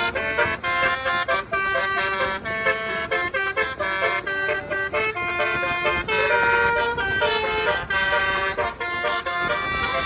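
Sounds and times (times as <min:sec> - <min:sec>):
bus horn playing a tune: 0:00.0 - 0:10.0.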